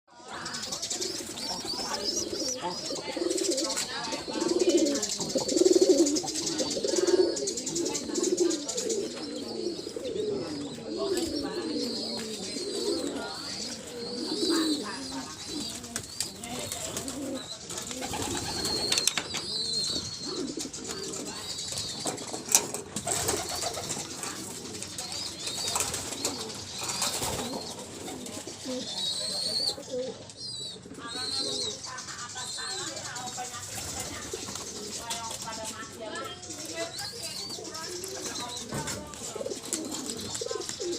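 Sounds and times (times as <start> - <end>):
high-pitched chatter: 0.1 - 40.9
birds high chirps: 0.2 - 40.9
pigeons cooing: 0.2 - 40.9.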